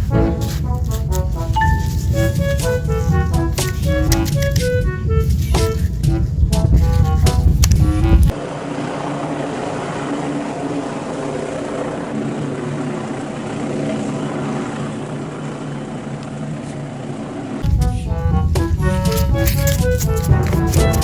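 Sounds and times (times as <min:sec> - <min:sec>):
steady mechanical drone: 0:00.0 - 0:21.0.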